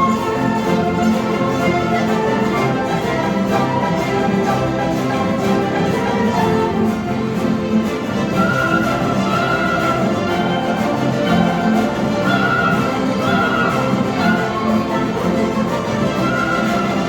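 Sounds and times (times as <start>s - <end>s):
string orchestra playing: 0.0s - 17.0s.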